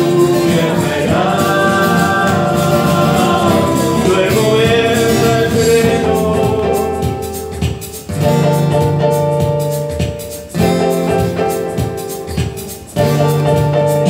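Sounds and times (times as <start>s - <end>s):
keyboard: 0.0s - 14.0s
strummed acoustic guitar: 0.0s - 14.0s.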